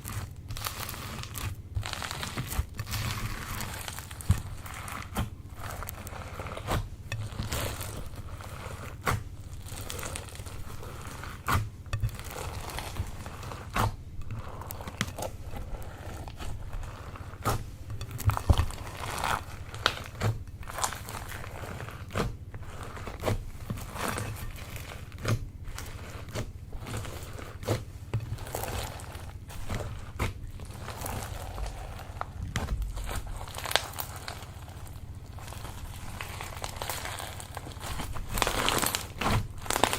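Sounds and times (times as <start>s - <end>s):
soft steady rustle: 0.0s - 39.9s.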